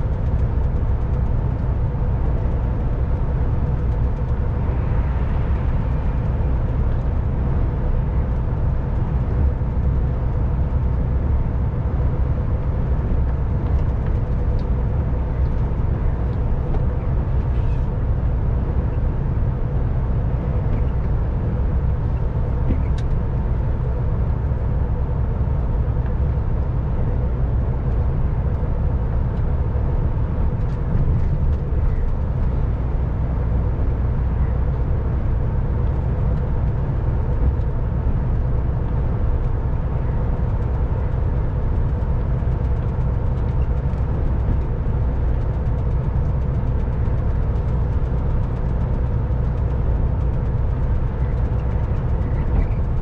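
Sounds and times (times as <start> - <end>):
lorry engine drone: 0.0 - 53.0
road rumble: 0.0 - 53.0
steady hum: 0.0 - 53.0.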